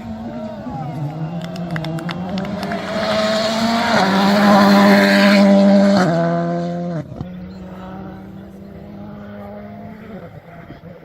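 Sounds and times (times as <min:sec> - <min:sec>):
rally car passing at full throttle: 0:00.0 - 0:11.0.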